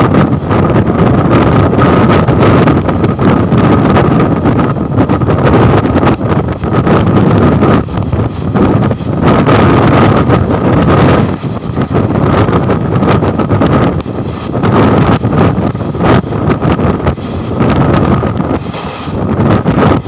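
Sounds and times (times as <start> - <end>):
train rumbling and rattling: 0.0 - 20.0
wind buffeting microphone: 0.0 - 20.0.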